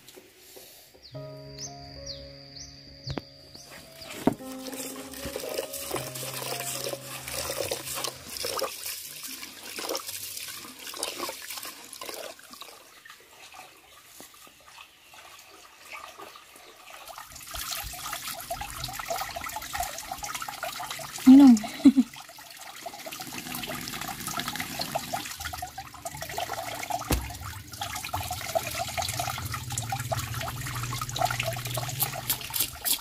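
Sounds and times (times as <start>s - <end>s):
water running and splashing: 3.8s - 33.0s.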